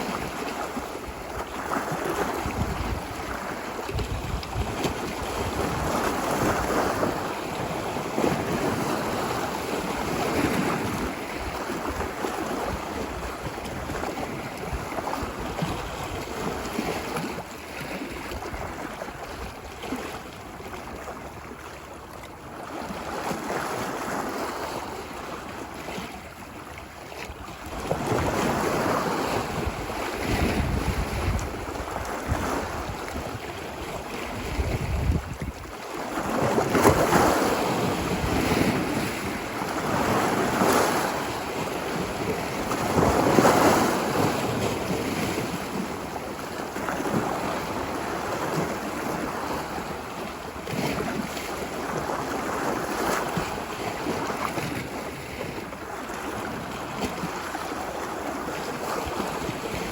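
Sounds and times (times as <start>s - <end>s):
wind on microphone: 0.0s - 20.1s, 27.2s - 59.9s
ocean waves on a beach: 0.0s - 59.9s.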